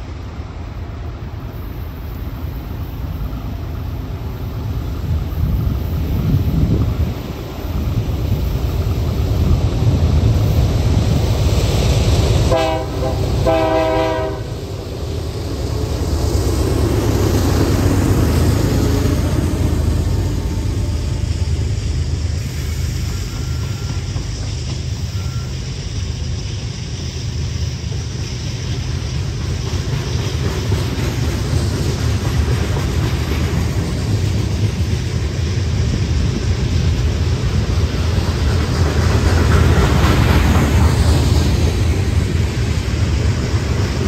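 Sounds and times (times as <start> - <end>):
freight train rumbling by: 0.0 - 44.0.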